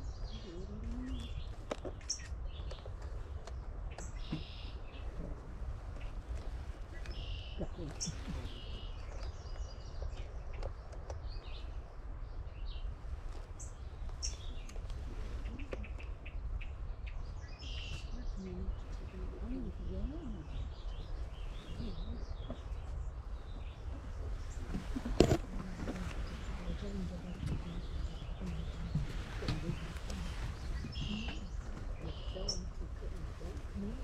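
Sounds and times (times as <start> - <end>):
songbirds chirping: 0.0 - 34.0
steady low rumble: 0.0 - 34.0.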